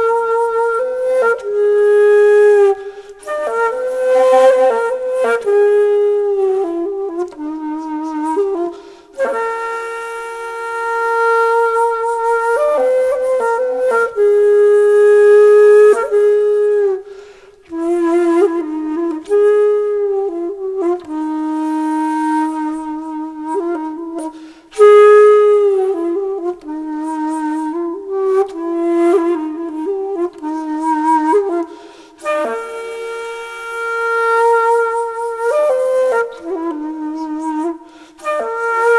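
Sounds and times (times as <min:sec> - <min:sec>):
solo flute slow melody: 0:00.0 - 0:38.9.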